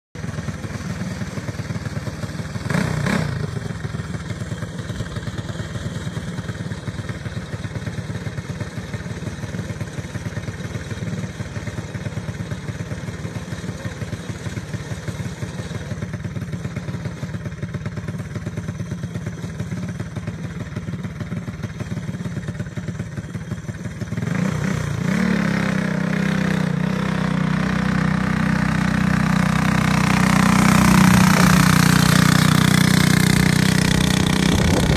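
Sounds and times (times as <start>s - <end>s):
go-kart engine running: 0.2s - 34.9s.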